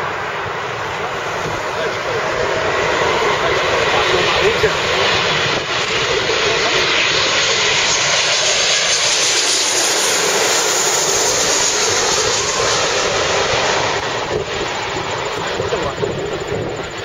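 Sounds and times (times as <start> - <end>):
jet airliner passing low overhead: 0.0 - 17.0.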